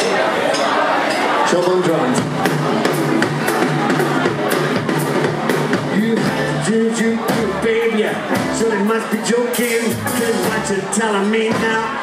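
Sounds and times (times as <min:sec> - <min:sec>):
live rockabilly band playing: 0:01.3 - 0:12.0.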